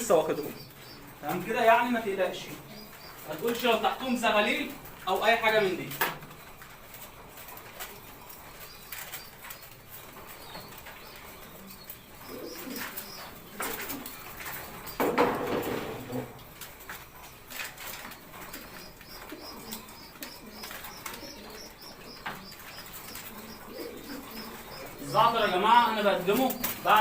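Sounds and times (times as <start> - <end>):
pigeons cooing: 0.0 - 27.0
wings flapping: 1.3 - 27.0.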